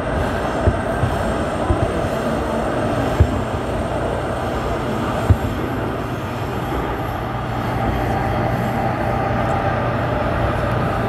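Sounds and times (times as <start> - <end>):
low hum: 0.0 - 11.0
train rumbling on track: 0.0 - 11.0.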